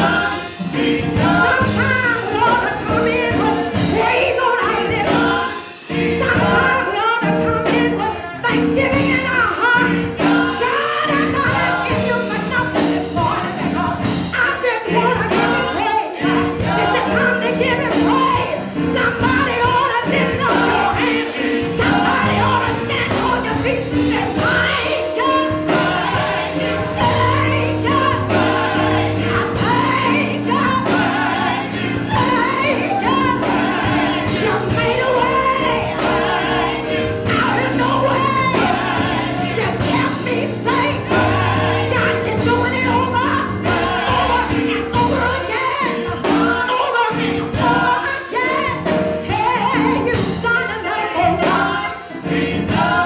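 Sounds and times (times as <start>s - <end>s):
gospel choir singing: 0.0s - 53.0s
woman singing into microphone: 1.1s - 31.2s, 32.0s - 36.3s, 37.2s - 52.0s.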